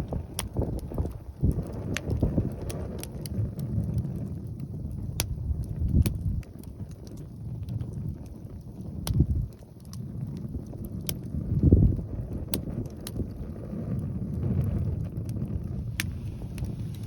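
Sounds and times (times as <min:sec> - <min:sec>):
campfire popping and crackling: 0:00.0 - 0:17.0
wind buffeting microphone: 0:00.0 - 0:17.0.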